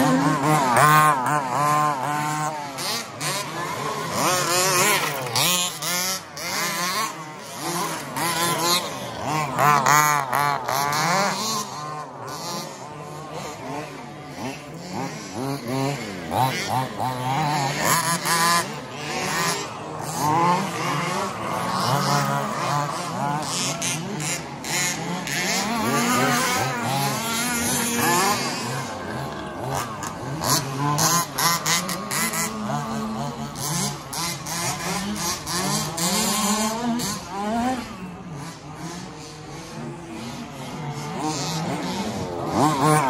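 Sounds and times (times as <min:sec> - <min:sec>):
rc car motors whining: 0:00.0 - 0:43.0.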